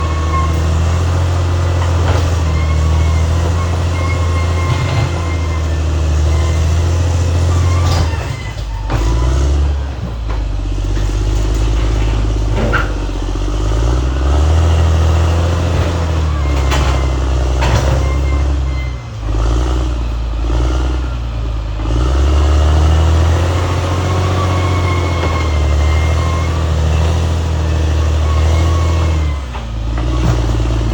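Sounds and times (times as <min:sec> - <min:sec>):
bulldozer diesel engine working: 0:00.0 - 0:30.9.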